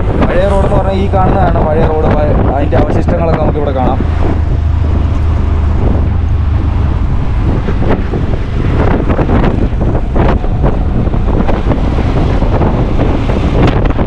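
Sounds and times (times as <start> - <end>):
engine rumble: 0.0 - 14.0
wind buffeting microphone: 0.0 - 14.0.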